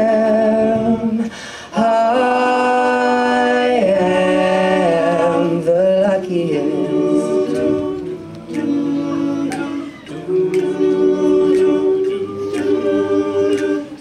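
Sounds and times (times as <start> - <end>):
male a cappella group singing: 0.0 - 14.0.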